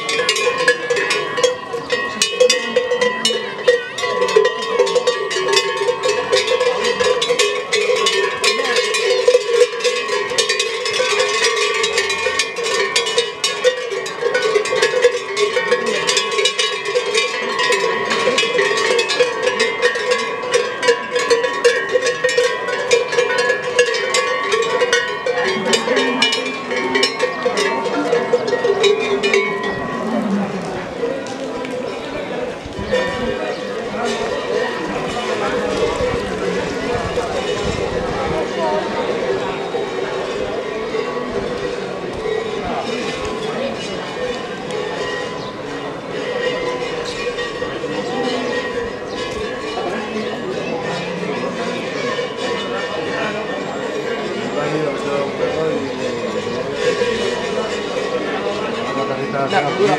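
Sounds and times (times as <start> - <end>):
cowbells clanking: 0.0 - 59.9.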